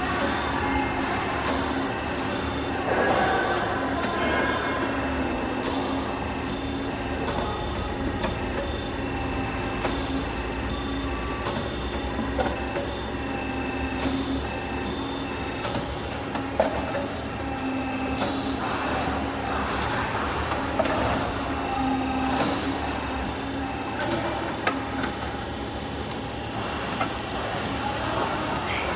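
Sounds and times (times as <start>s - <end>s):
machine motor hum: 0.0s - 28.9s.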